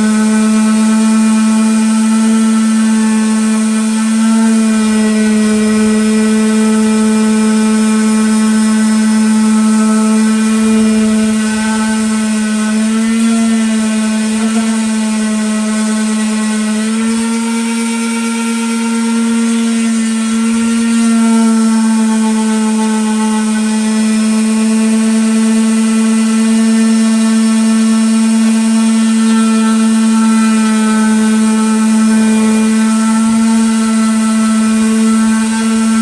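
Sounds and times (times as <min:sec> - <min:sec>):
electric power sander running: 0:00.0 - 0:36.0.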